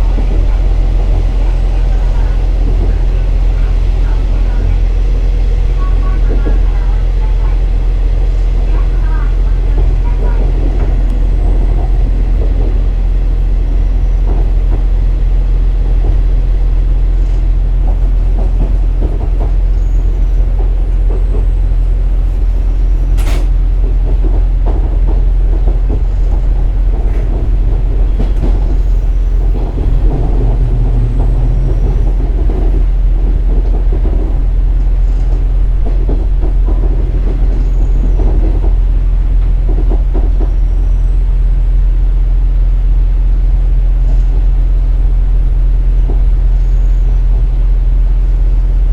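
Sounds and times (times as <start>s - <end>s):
diesel engine drone: 0.0s - 48.9s
wheel on rail rumble: 0.0s - 48.9s.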